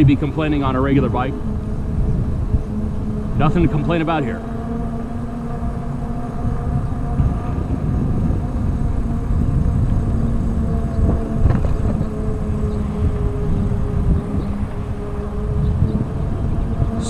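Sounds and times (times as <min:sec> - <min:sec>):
electric motor whine: 0:00.0 - 0:17.0
wind rumbling on microphone: 0:00.0 - 0:17.0.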